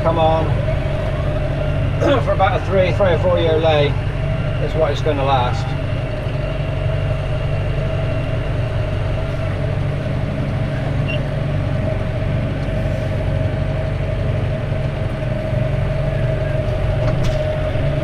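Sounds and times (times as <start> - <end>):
steady whine: 0.0 - 18.0
tractor engine drone: 0.0 - 18.0.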